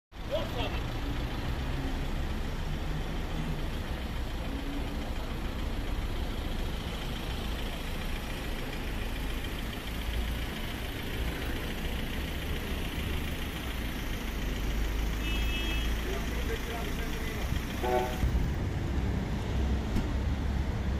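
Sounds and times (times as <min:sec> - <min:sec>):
outdoor street noise: 0:00.1 - 0:20.9
vehicle engine idling: 0:00.2 - 0:20.9.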